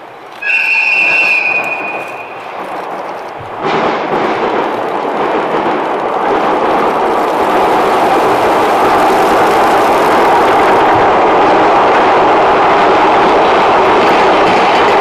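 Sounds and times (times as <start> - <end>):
train rumbling on a bridge: 0.0 - 15.0.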